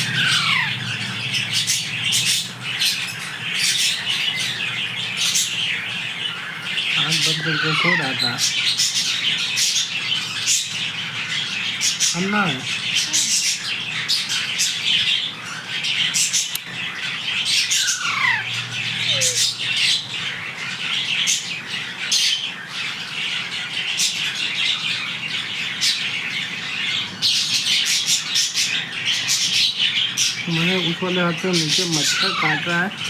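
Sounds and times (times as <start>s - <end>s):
parakeets squawking: 0.0s - 33.0s.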